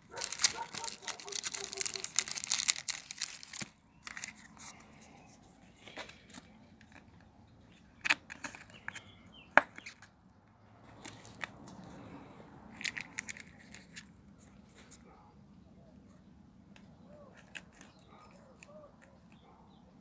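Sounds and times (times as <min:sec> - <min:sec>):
paper cards clicking and scraping: 0:00.0 - 0:10.1, 0:10.8 - 0:12.1, 0:12.7 - 0:15.1, 0:16.8 - 0:19.5.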